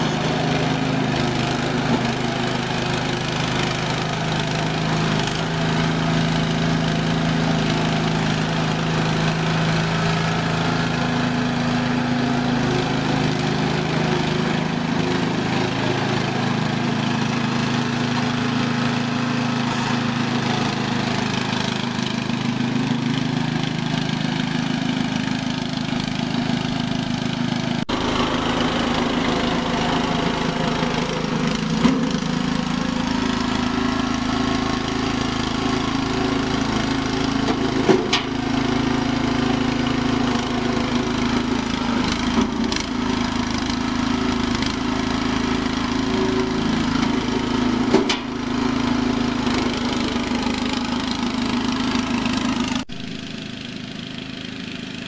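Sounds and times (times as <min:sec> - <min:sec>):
small petrol engine running: 0:00.0 - 0:55.0.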